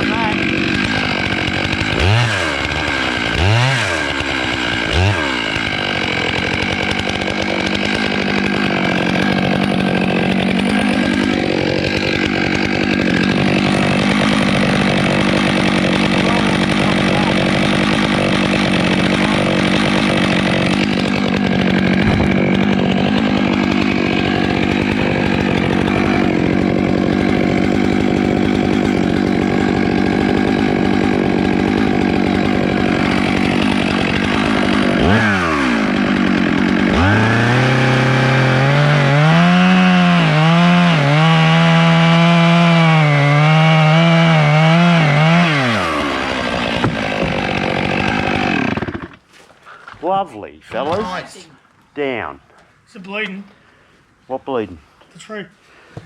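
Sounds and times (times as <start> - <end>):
chainsaw cutting wood: 0.0 - 49.3, 50.8 - 51.4.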